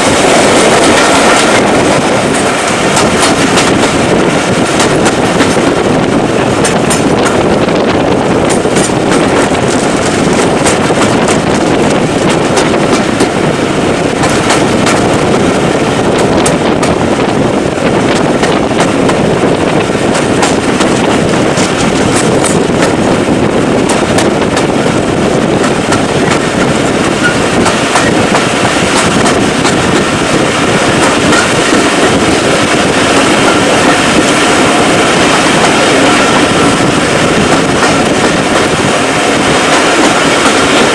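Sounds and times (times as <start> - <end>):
clatter over rail joints: 0.0 - 13.4, 17.9 - 40.9
train wheels rumbling on rails: 0.0 - 40.9.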